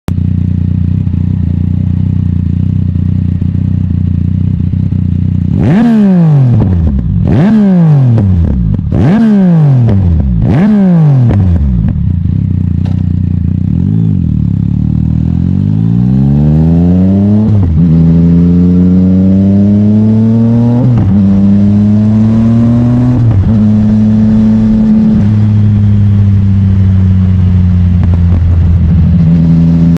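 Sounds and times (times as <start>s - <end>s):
motorcycle engine revving: 0.1s - 30.0s.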